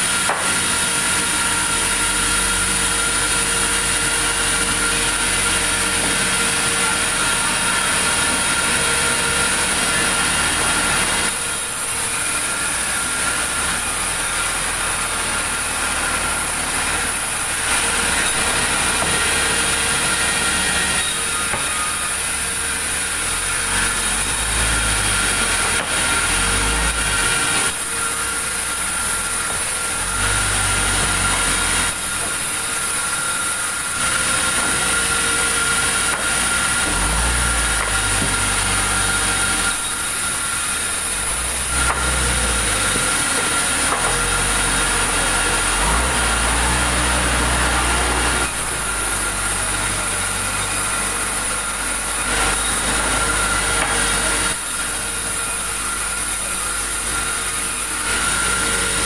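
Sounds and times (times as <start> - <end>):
machine high whine: 0.0 - 59.0.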